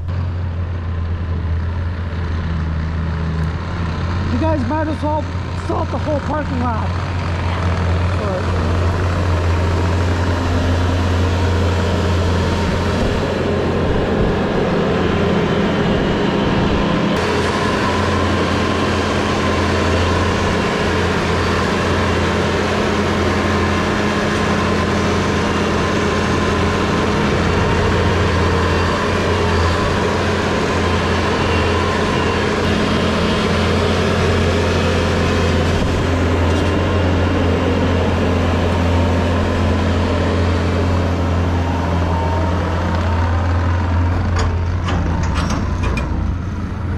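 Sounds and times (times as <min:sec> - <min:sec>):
vehicle engine humming steadily: 0:00.0 - 0:46.9.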